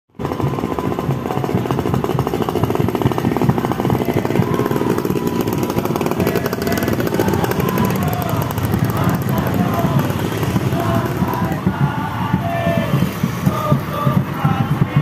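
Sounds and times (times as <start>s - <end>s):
motorcycle engines rattling: 0.2s - 15.0s.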